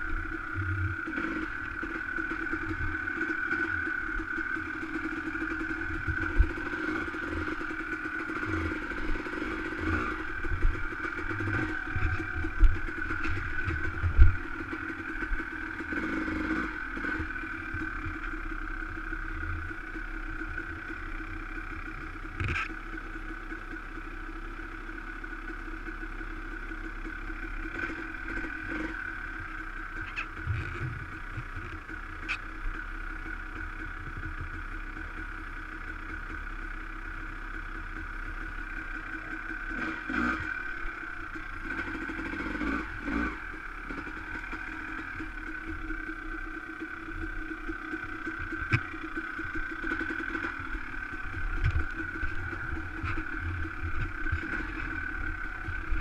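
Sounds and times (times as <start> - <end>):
dirt bike engine at low revs: 0.0 - 56.0.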